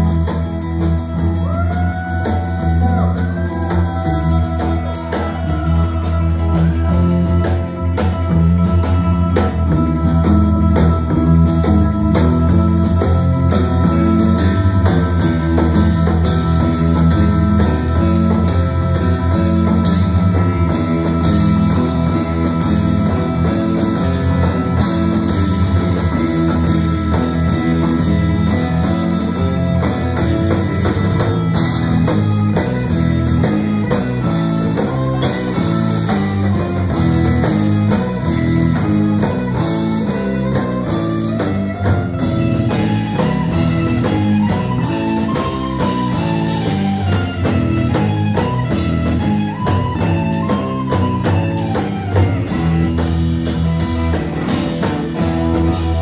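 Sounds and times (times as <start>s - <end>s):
drum kit: 0.0s - 56.0s
electric bass: 0.0s - 56.0s
electric guitars: 0.0s - 56.0s.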